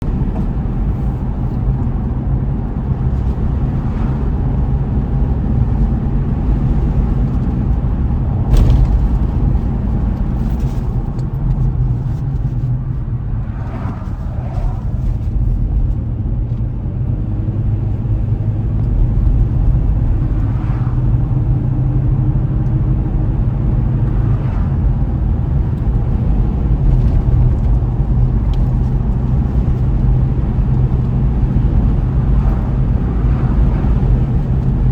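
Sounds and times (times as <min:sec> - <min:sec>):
car engine and tyres rumbling: 0:00.0 - 0:34.9.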